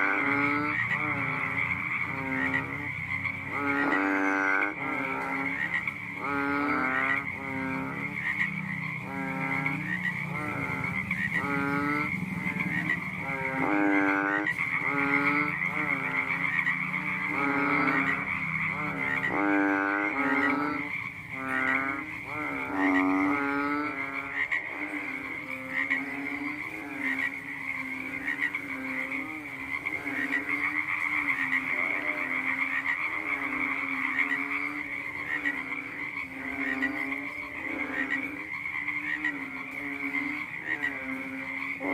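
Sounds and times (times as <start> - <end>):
frog croaking: 0.0 - 41.9
night insects trilling: 0.0 - 41.9.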